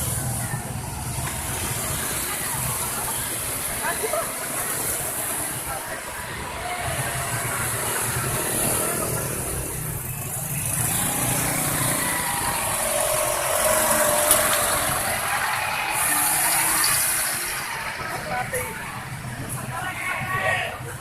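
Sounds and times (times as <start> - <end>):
bus engine running: 0.0 - 20.0
traffic hiss: 0.0 - 21.0.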